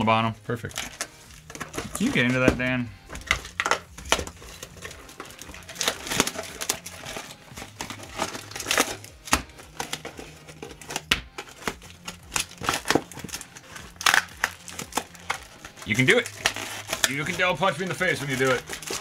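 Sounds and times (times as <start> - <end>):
foil wrappers crinkling: 0.6 - 19.0.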